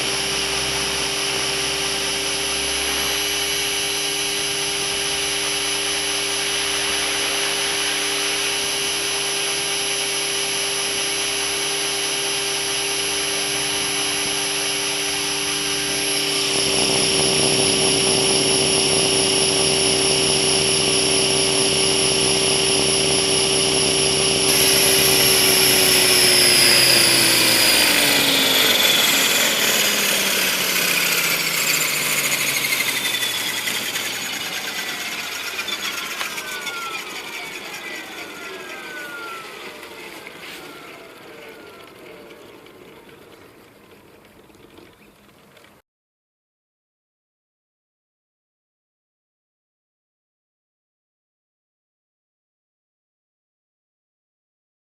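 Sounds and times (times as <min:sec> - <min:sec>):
model helicopter motor whining: 0:00.0 - 0:45.8.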